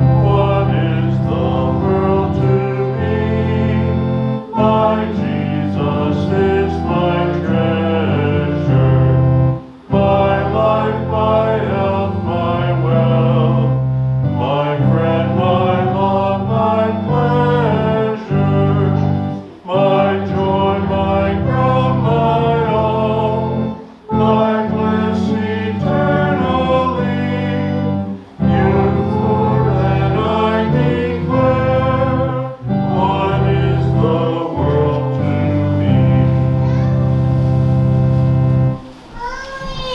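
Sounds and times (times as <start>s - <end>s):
congregation singing a hymn: 0.0s - 39.1s
instrumental accompaniment: 0.0s - 39.3s.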